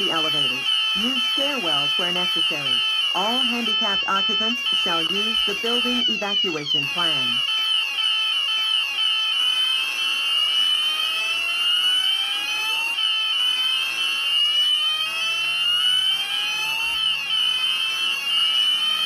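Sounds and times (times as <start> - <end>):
rapid high-pitched alarm sweep: 0.0 - 19.0
slow rising alarm sweep: 0.0 - 19.0.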